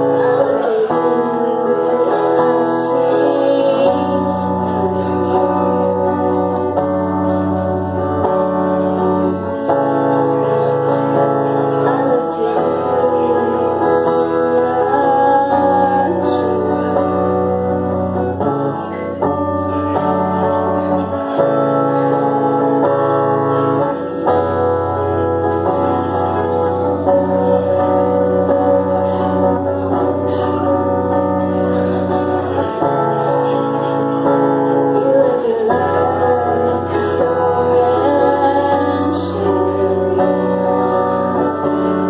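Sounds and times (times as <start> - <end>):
guitar playing chords: 0.0 - 42.0.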